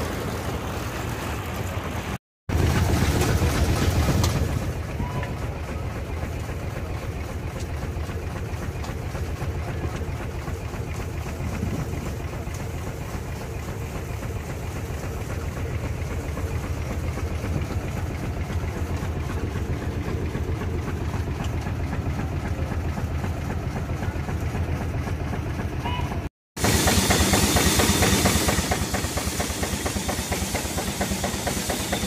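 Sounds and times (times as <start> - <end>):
steam engine running: 0.0 - 32.0.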